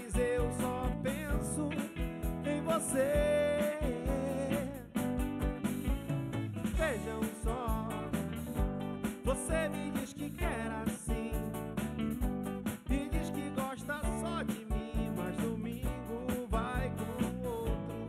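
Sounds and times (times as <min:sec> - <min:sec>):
man singing lead vocal: 0:00.0 - 0:05.1, 0:06.7 - 0:08.4, 0:09.2 - 0:11.7, 0:12.8 - 0:18.0
drum kit beat: 0:00.0 - 0:18.0
electric bass: 0:00.0 - 0:18.0
electric guitars: 0:00.0 - 0:18.0.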